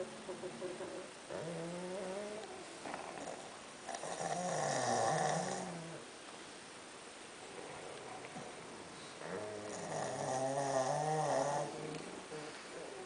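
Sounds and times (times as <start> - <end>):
dogs snoring: 0.8 - 6.1, 7.6 - 13.0.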